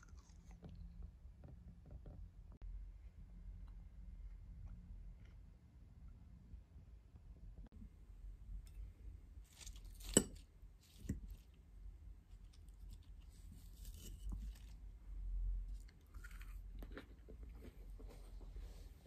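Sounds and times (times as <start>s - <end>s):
soft chewing and crunching: 0.0s - 6.3s, 7.6s - 19.0s.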